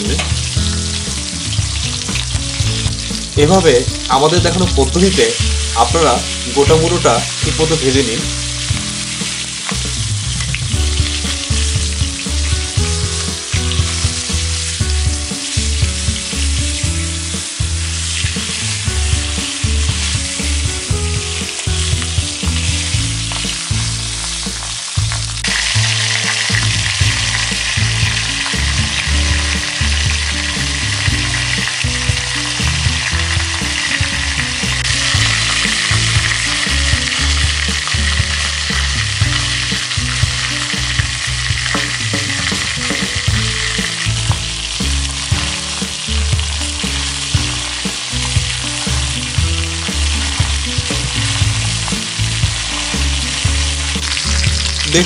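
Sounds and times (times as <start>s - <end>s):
fish frying in hot oil: 0.0s - 55.0s.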